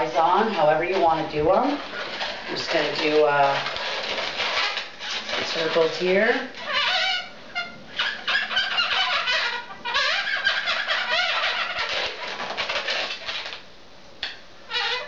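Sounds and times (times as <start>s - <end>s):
balloon squeaking under marker: 0.0s - 13.7s, 14.7s - 15.0s.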